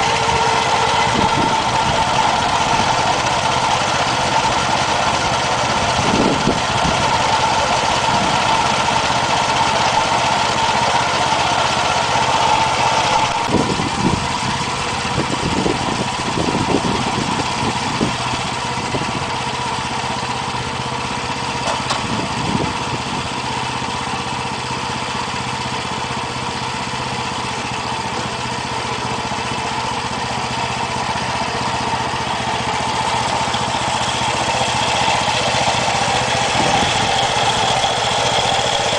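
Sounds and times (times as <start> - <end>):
gasoline engine running: 0.0 - 38.9.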